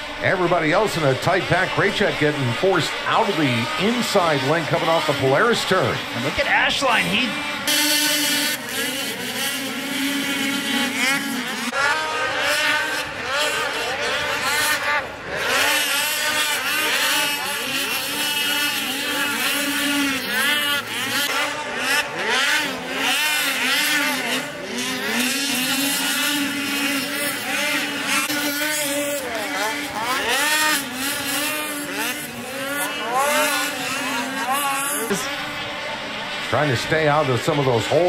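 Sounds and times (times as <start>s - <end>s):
racing snowmobile engines: 0.0s - 38.0s.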